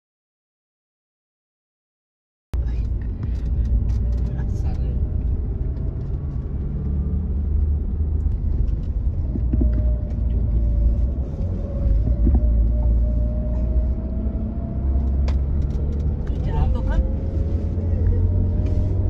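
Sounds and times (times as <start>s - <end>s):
car cabin road rumble: 2.6s - 19.0s.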